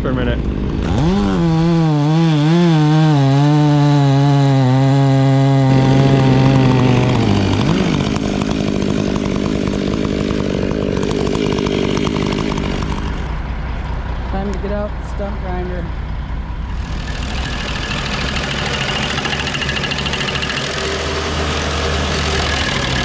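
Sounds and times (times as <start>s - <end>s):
chainsaw running at high revs: 0.1s - 13.5s, 16.7s - 23.0s
chainsaw cutting wood: 0.4s - 13.5s, 16.7s - 23.0s.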